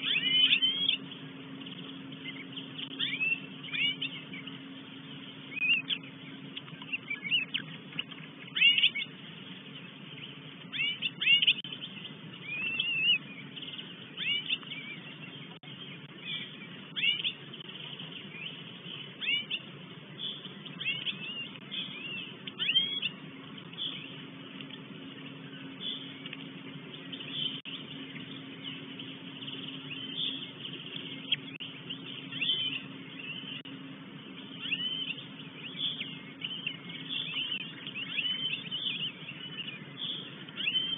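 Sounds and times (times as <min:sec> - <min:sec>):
high bird calls: 0:00.0 - 0:40.9
steady low hum: 0:00.0 - 0:40.9.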